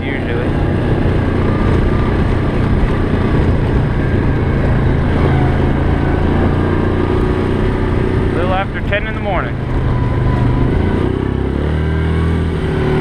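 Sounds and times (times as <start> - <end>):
atv engine running: 0.0 - 13.0
wind rushing: 0.0 - 13.0.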